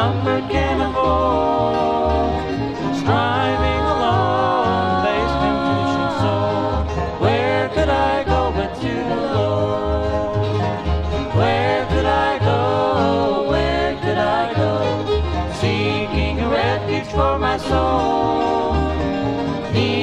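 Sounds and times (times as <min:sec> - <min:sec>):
acoustic guitar: 0:00.0 - 0:20.0
banjo: 0:00.0 - 0:20.0
upright bass plucking: 0:00.0 - 0:20.0.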